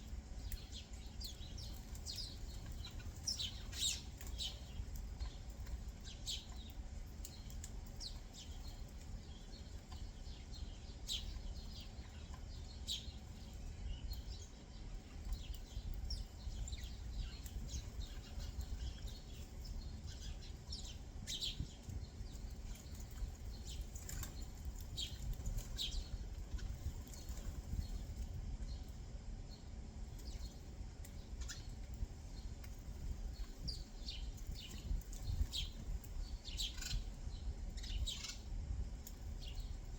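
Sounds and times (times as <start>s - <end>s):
low background rumble: 0.0s - 39.9s
songbirds chirping: 0.0s - 39.9s.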